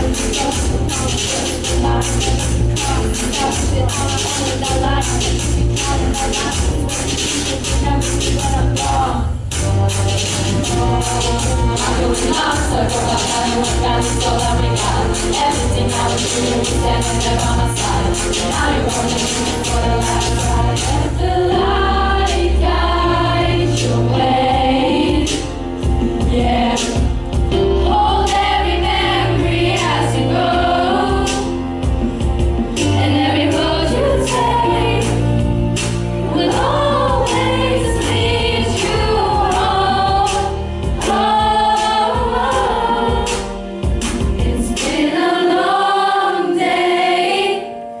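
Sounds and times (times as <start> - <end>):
children's choir singing: 0.0 - 25.5, 26.2 - 31.6, 32.8 - 35.4, 36.2 - 48.0
bass line: 0.0 - 45.0.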